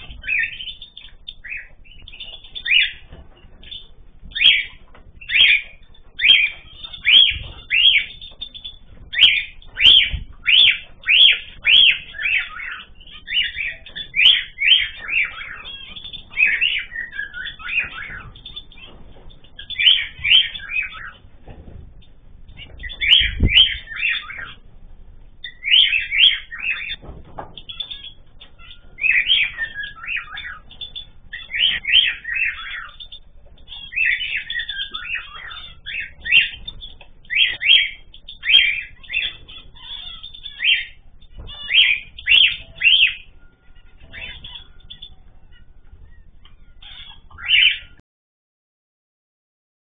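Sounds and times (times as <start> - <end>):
small cage birds chirping: 0.0 - 48.0.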